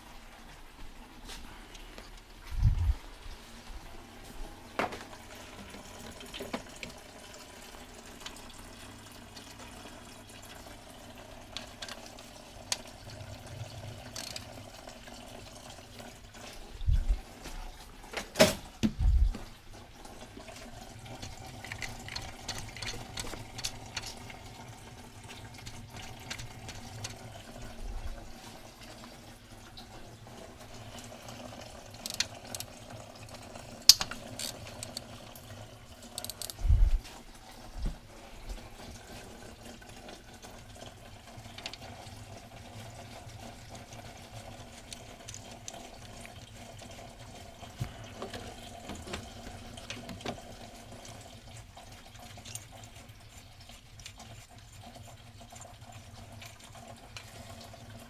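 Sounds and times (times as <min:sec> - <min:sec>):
liquid running: 0:00.0 - 0:58.0.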